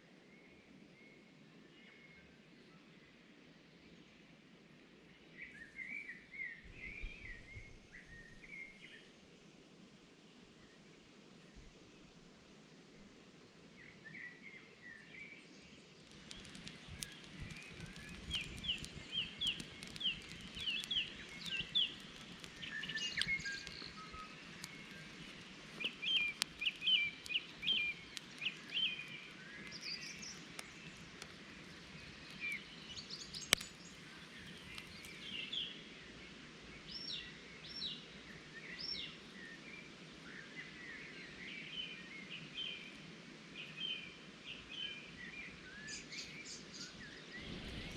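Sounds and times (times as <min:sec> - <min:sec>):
faint steady background noise: 0:00.0 - 0:47.9
small birds singing: 0:05.0 - 0:09.2, 0:13.6 - 0:47.9.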